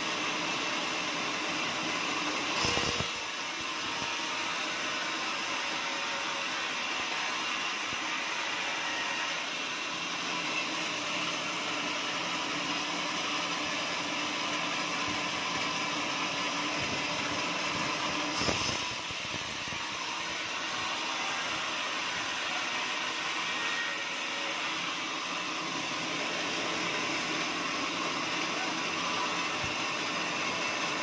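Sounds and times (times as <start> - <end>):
band saw cutting timber: 2.0 - 15.9, 17.0 - 31.0.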